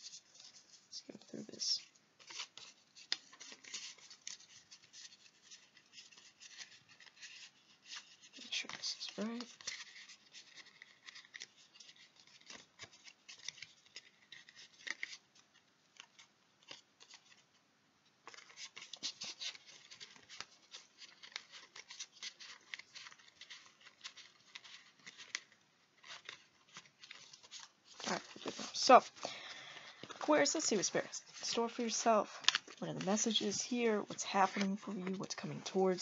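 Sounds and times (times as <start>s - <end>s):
cards being shuffled: 0.0s - 17.6s, 18.2s - 36.0s.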